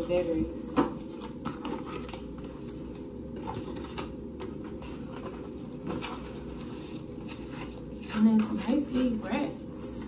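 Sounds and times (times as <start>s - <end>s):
low room hum: 0.0s - 10.0s
cardboard rustling: 1.0s - 9.5s.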